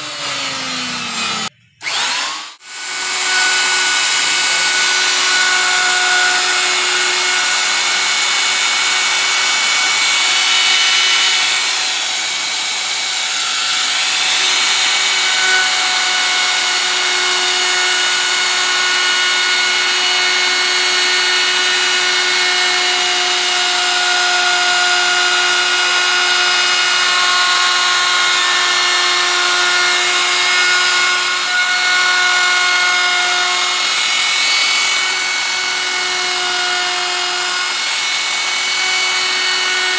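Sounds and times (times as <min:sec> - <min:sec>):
router bit cutting wood: 0:00.0 - 0:39.9
router motor whine: 0:00.0 - 0:39.9.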